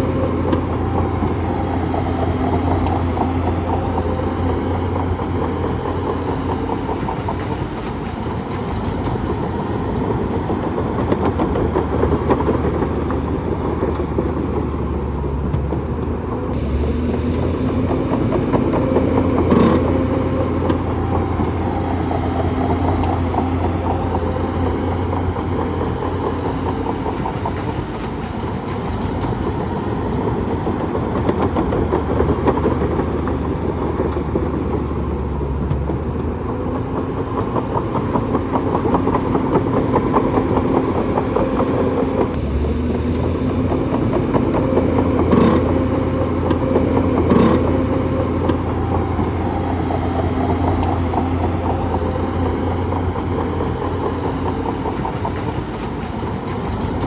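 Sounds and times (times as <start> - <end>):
bulldozer diesel engine: 0.0 - 57.0
metallic clatter: 0.0 - 57.0.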